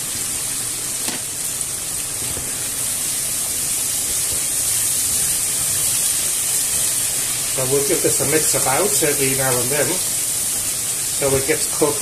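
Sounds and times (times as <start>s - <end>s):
food sizzling in a frying pan: 0.0s - 12.0s
kitchen extractor fan running: 0.0s - 12.0s.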